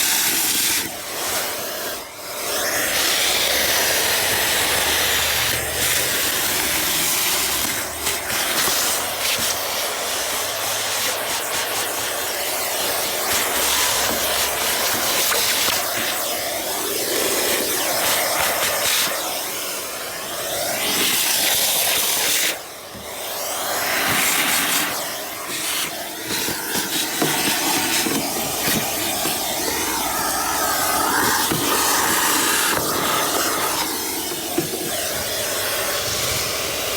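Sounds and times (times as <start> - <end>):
car-cleaning equipment hissing: 0.0 - 36.9.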